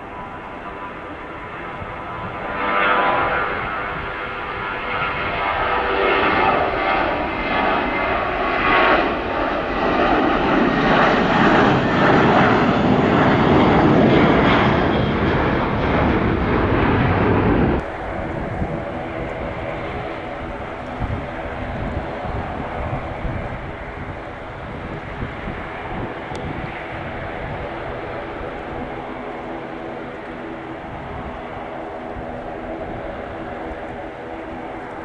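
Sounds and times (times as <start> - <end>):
jet engines roaring with whine: 0.0 - 35.0.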